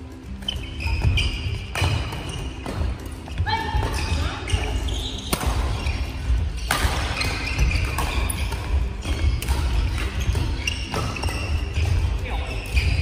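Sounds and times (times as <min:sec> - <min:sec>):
shoes squeaking on wooden floor: 0:00.1 - 0:13.0
racket hitting shuttlecock: 0:00.4 - 0:13.0.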